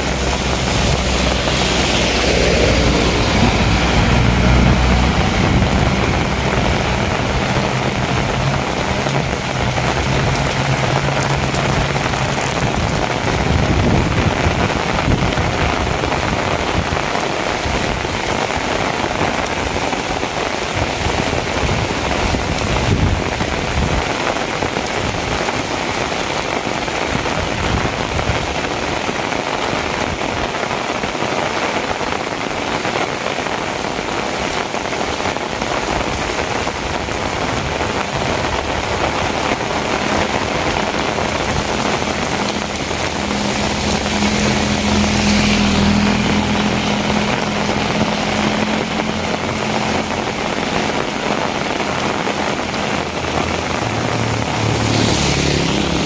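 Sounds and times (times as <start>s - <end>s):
vehicle engine hum: 0.0s - 28.8s, 33.1s - 56.0s
heavy rain falling: 0.0s - 56.0s.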